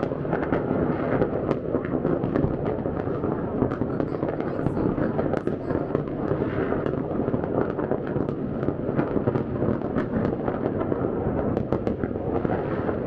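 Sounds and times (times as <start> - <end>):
distant fireworks rumble: 0.0 - 13.0
firecracker cracks: 0.0 - 13.0.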